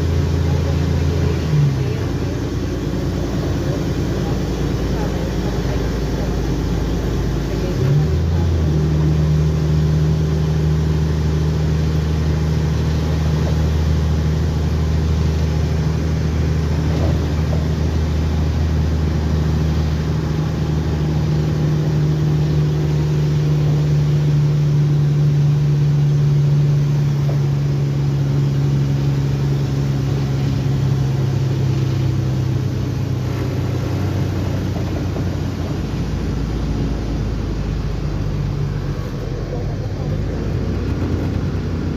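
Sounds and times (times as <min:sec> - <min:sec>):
bus diesel engine drone: 0:00.0 - 0:41.9.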